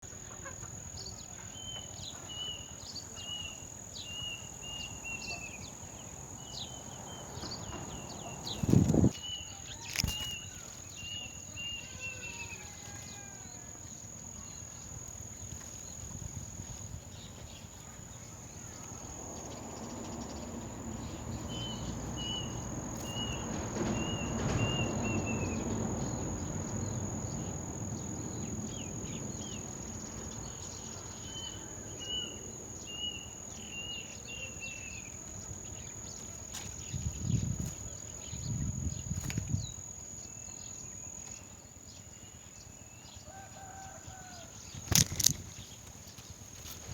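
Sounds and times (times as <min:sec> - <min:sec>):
crickets droning: 0:00.0 - 0:46.9.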